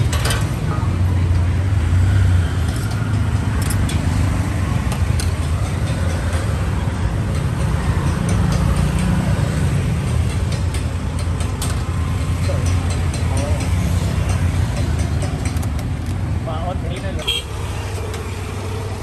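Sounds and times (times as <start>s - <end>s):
low rumble of street traffic: 0.0s - 19.0s.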